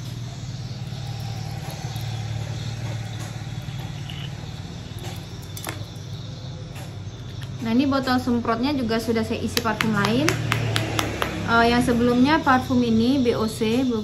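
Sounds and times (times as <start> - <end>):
low pulsing engine hum: 0.0 - 14.0.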